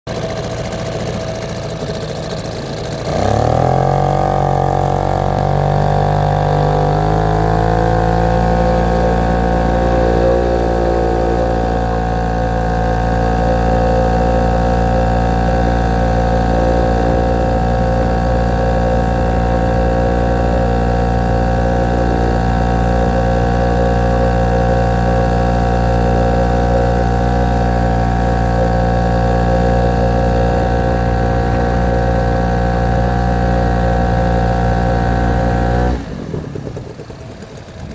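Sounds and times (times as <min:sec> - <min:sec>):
outboard motor running: 0:00.1 - 0:37.9.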